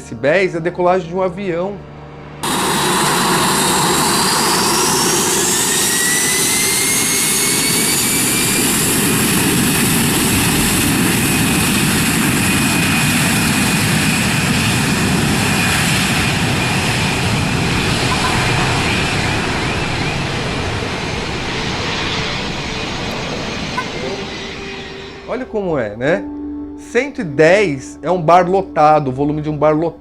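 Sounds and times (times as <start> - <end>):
jet airplane taking off: 2.2 - 29.0.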